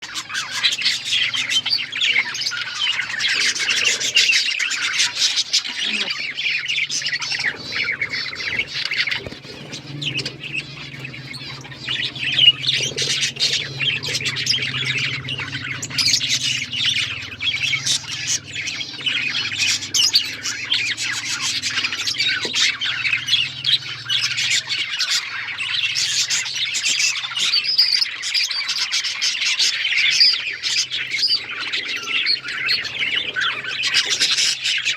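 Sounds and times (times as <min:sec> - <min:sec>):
budgerigars chirping: 0:00.0 - 0:34.9.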